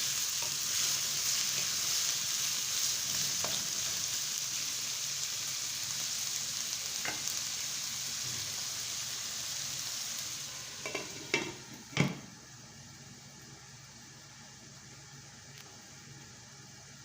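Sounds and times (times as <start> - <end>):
chicken sizzling in a pan: 0.0 - 14.4.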